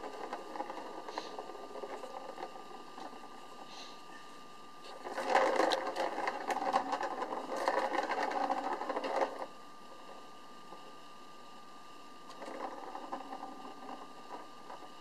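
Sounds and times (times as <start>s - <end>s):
plastic ball rattling around track: 0.0s - 3.9s, 4.8s - 11.0s, 12.2s - 15.0s.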